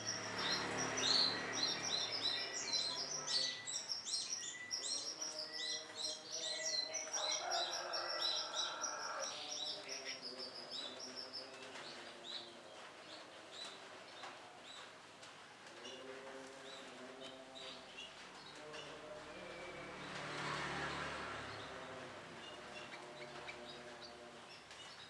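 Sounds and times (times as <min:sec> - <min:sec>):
canary chirping: 0:00.0 - 0:14.9, 0:15.7 - 0:25.0.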